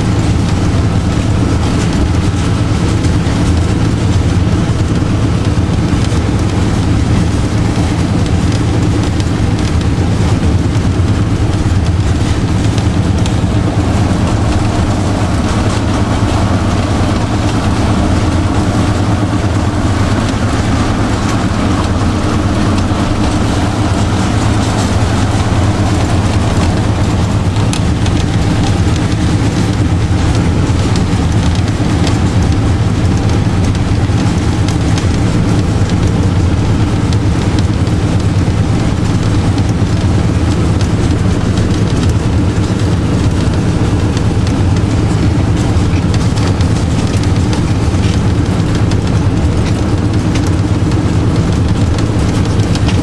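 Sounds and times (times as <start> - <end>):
diesel locomotive engine running: 0.0 - 53.0.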